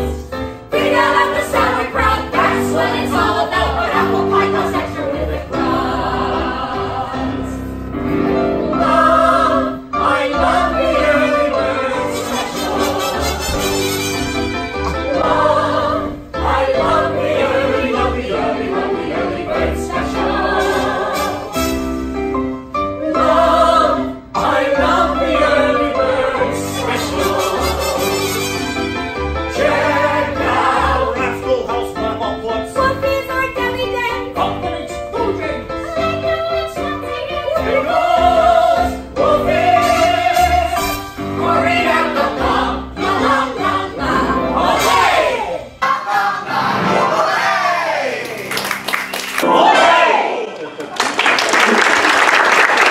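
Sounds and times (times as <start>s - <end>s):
cast singing with instrumental backing: 0.0s - 48.2s
musical accompaniment: 0.0s - 50.9s.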